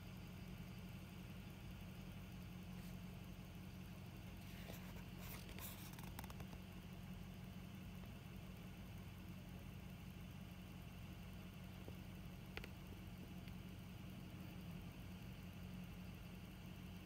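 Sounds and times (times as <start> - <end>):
faint engine idling: 0.0 - 17.0.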